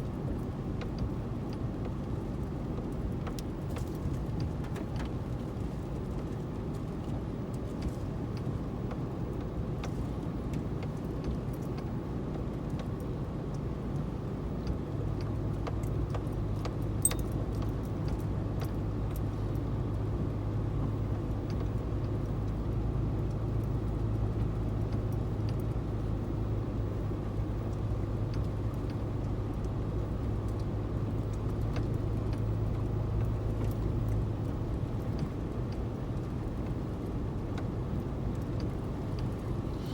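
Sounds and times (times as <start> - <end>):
car driving hum: 0.0 - 39.9.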